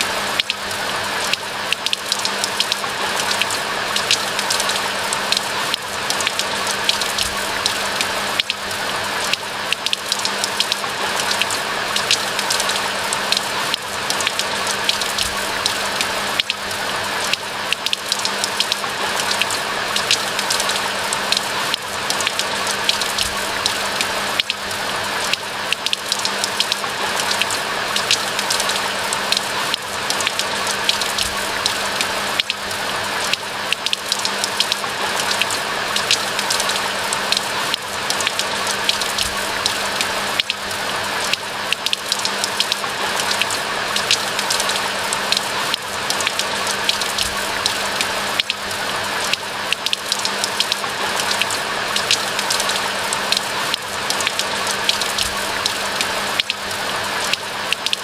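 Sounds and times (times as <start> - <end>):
rain falling in forest: 0.0 - 58.0.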